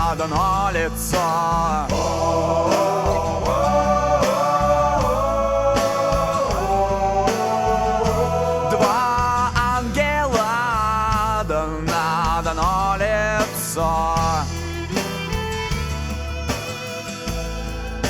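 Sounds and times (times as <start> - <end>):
rock song with sliding melody: 0.0 - 18.0.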